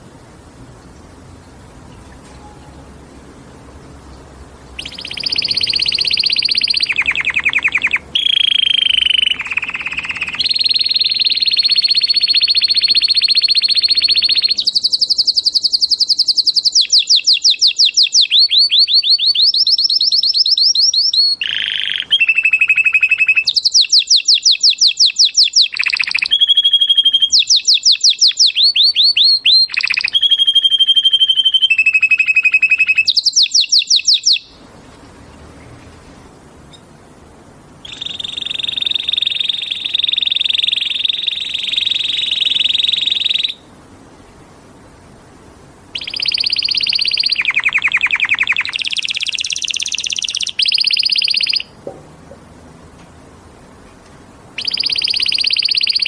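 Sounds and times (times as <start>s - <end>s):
canary singing trills: 0.8s - 37.0s, 37.8s - 43.7s, 45.9s - 51.8s, 54.5s - 56.0s.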